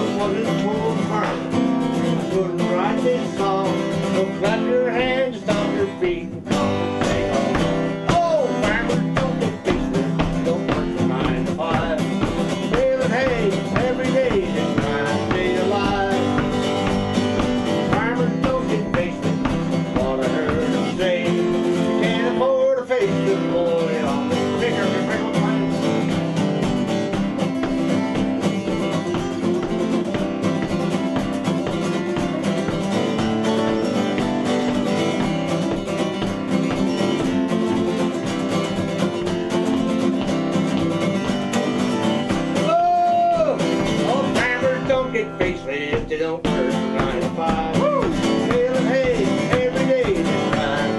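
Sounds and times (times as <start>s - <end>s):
country music with guitar: 0.0s - 50.9s.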